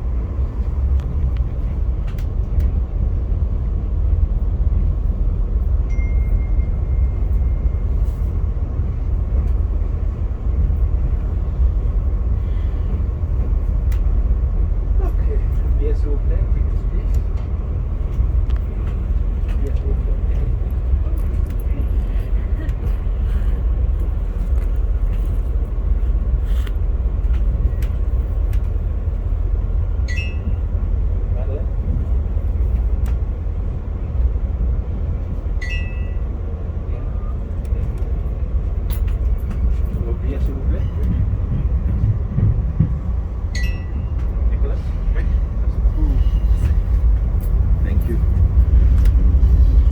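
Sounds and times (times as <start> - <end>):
train rumbling from on board: 0.0 - 49.9.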